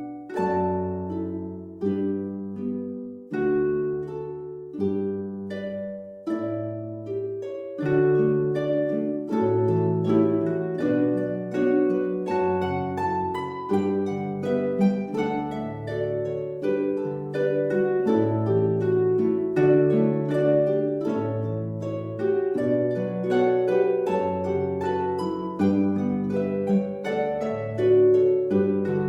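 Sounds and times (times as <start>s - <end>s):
plucked strings music: 0.0s - 29.0s.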